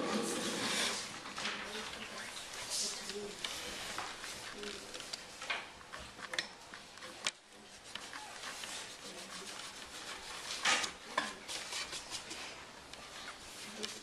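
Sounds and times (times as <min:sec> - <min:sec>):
rubbing and scraping on wooden desk: 0:00.0 - 0:05.2, 0:07.0 - 0:14.0.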